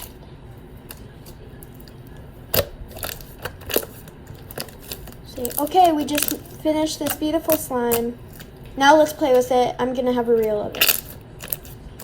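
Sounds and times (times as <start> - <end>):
sticky slime handling: 0.0 - 12.0.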